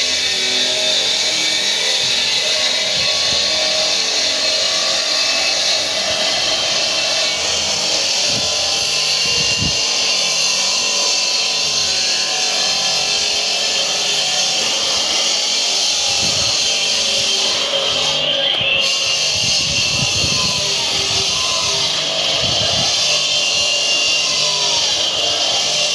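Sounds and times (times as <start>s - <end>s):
stone-cutting saw whine: 0.0s - 25.9s.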